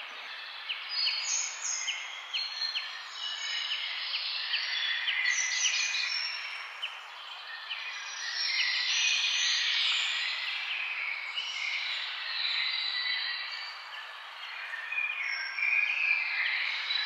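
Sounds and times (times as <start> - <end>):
birds singing and calling: 0.0 - 17.0.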